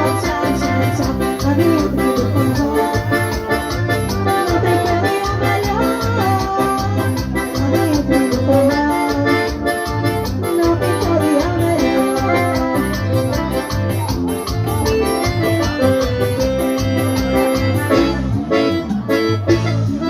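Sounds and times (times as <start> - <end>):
accordion melody: 0.0 - 20.0
pulsing bass and percussion: 0.0 - 20.0.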